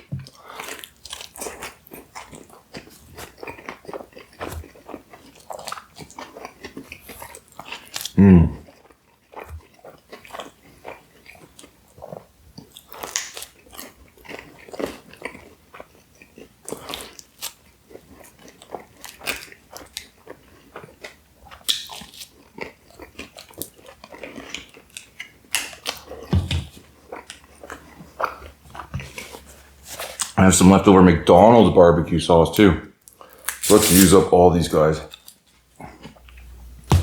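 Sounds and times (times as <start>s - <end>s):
person chewing pizza: 0.0s - 30.5s, 32.6s - 37.0s.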